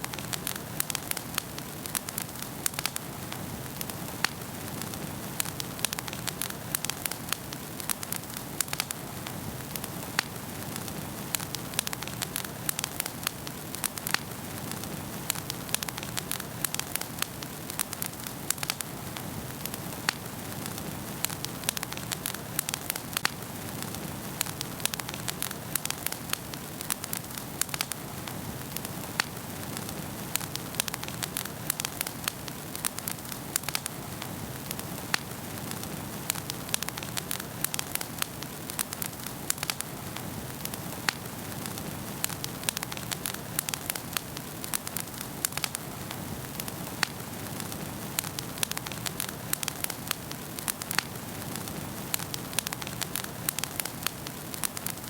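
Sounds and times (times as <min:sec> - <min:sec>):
hiss of flames: 0:00.0 - 0:55.0
wood fire crackling and popping: 0:00.0 - 0:55.0.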